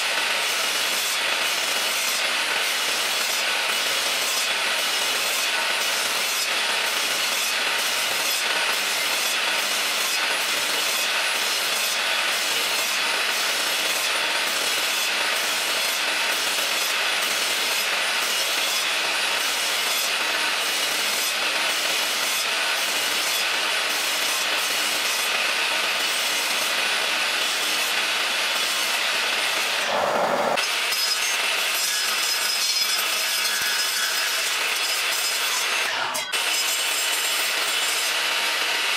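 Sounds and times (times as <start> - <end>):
miter saw cutting wood: 0.0 - 38.9.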